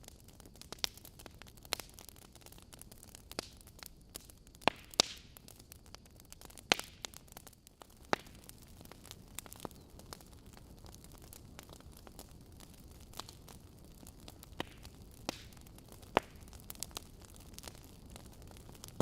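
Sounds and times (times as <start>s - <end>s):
logs crackling and popping: 0.0s - 19.0s
low fire hiss: 0.0s - 19.0s.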